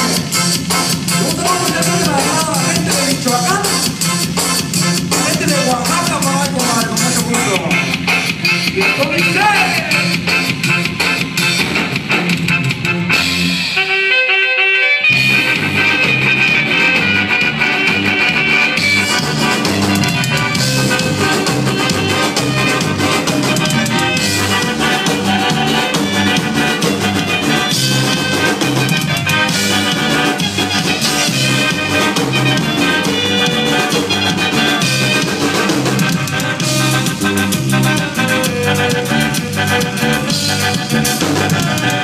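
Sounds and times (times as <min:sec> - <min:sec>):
band playing latin dance music: 0:00.0 - 0:42.0.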